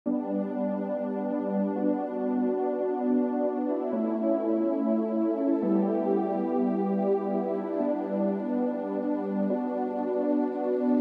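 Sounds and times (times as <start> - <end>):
ambient music sustained notes: 0.1 - 11.0.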